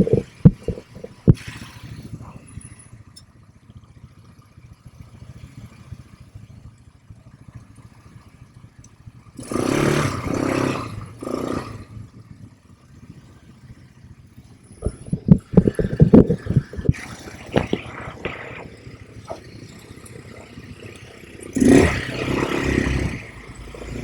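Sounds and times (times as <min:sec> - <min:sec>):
atv engine revving: 0:00.0 - 0:03.2, 0:04.0 - 0:24.0.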